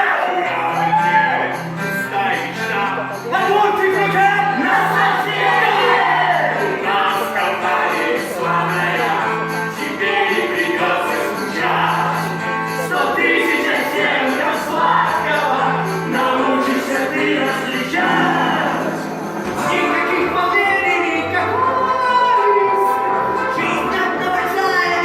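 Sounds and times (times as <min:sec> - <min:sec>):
musical backing track: 0:00.0 - 0:25.0
several voices singing: 0:00.0 - 0:25.0.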